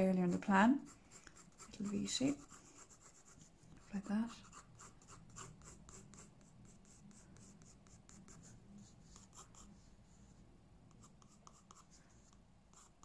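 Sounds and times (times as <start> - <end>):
pencil scratching on paper: 0.3 - 13.0.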